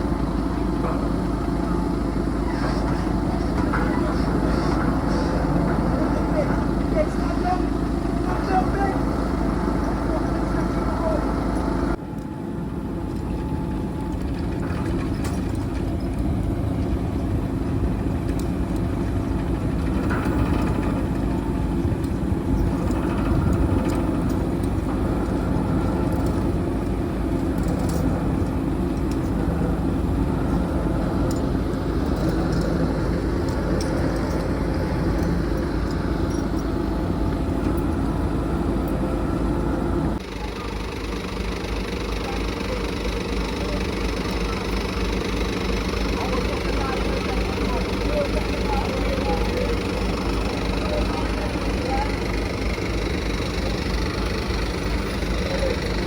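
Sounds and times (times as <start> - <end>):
heavy truck engine running: 0.0 - 56.0.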